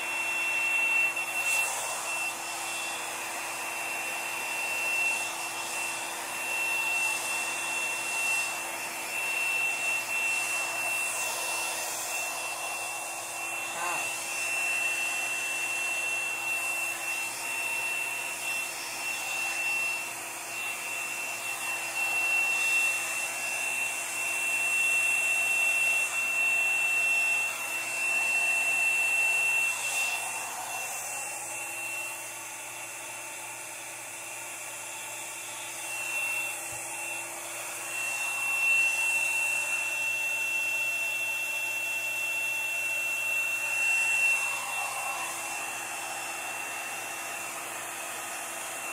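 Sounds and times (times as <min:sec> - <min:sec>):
hair dryer whining: 0:00.0 - 0:48.9.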